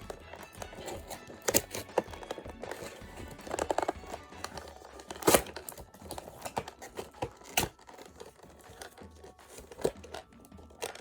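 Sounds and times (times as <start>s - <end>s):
packaging tearing and crinkling: 0.0s - 11.0s.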